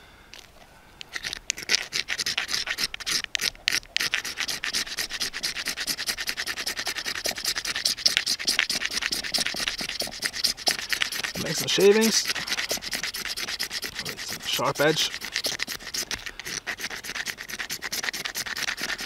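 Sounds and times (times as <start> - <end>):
knife scraping fire-starter block: 0.4 - 19.0.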